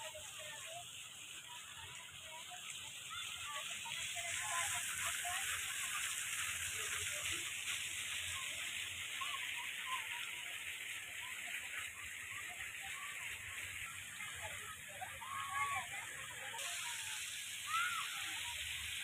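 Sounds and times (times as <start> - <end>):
fountain jet splashing: 0.0 - 19.0.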